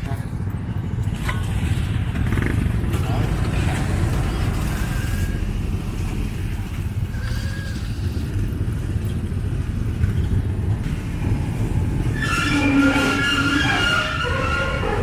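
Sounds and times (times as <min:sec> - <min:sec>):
ferry engine rumble: 0:00.0 - 0:15.0.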